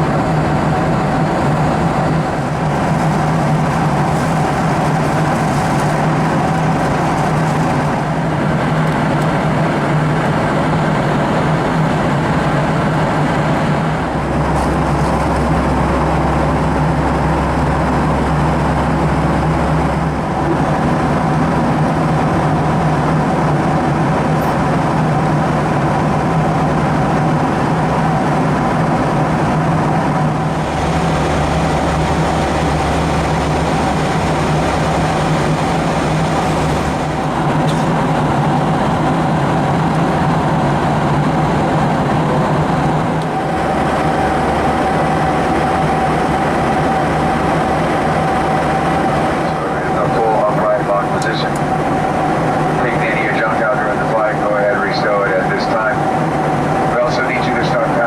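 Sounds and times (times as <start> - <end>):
low hum: 0.0 - 9.8, 11.6 - 58.0
vehicle engine drone: 0.0 - 58.0.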